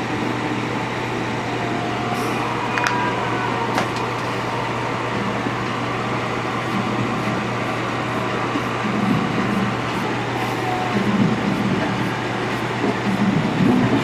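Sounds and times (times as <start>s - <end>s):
hot air fan blowing: 0.0s - 14.0s.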